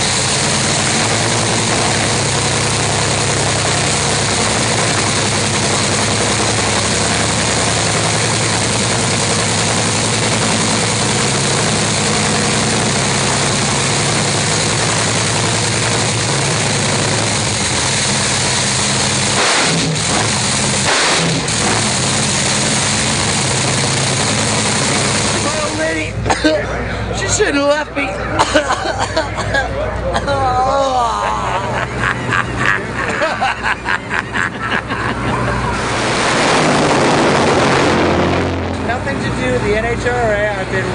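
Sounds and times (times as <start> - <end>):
loud engine idling: 0.0 - 40.9.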